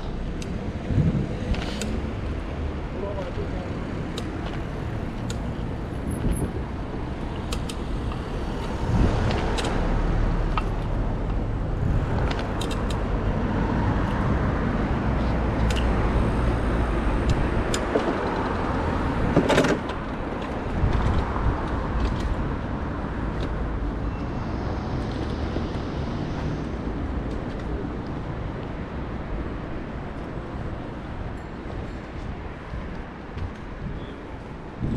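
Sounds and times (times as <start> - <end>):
city street traffic: 0.0 - 34.9.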